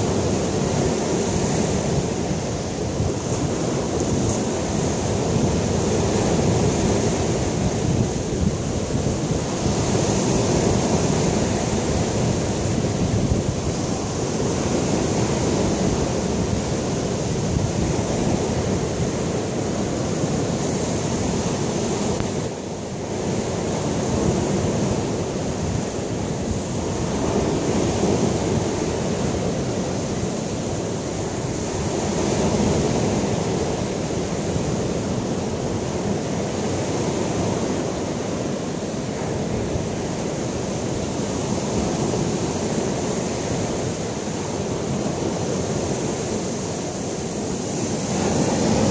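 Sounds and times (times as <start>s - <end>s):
waves breaking on a beach: 0.0s - 48.9s
wind buffeting the microphone: 0.0s - 48.9s.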